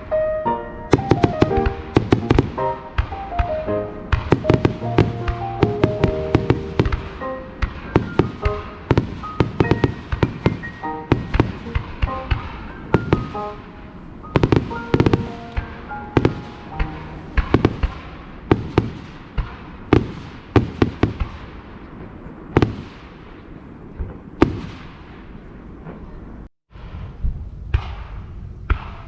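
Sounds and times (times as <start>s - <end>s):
fireworks bangs with rumbling echo: 0.9s - 29.0s.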